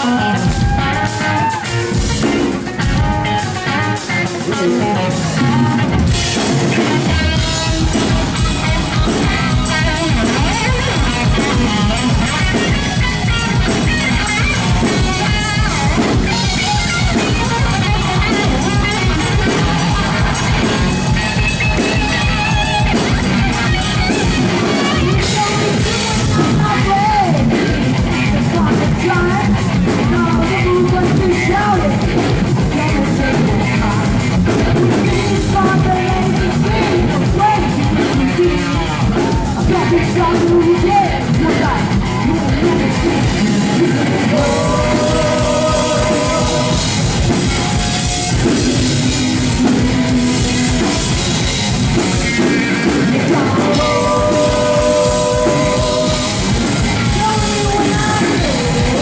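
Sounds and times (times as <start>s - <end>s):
person singing: 0.0s - 23.2s, 24.0s - 49.9s, 52.6s - 59.0s
drum kit beat: 0.0s - 59.0s
electric guitar: 0.0s - 59.0s.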